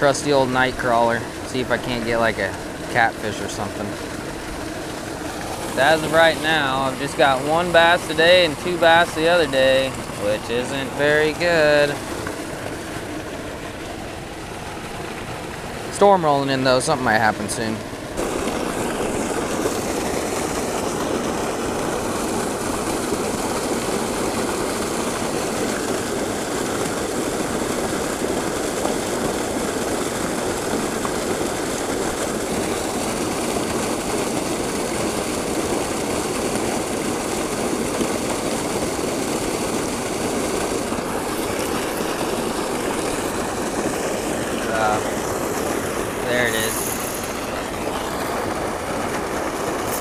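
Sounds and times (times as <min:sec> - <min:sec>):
water gushing into pool: 0:00.0 - 0:50.0.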